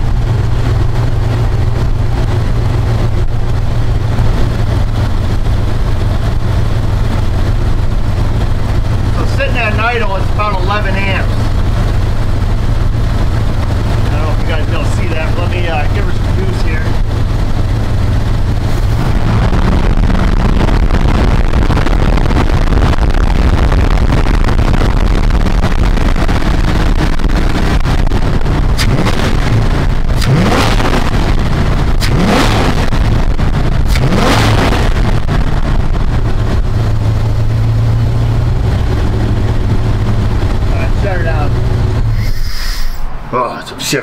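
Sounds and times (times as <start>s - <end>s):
truck engine idling and revving: 0.0s - 44.0s.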